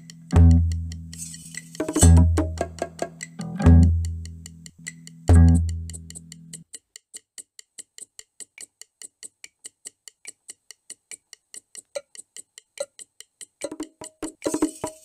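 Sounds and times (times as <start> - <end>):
clock-like ticking: 0.0 - 15.0.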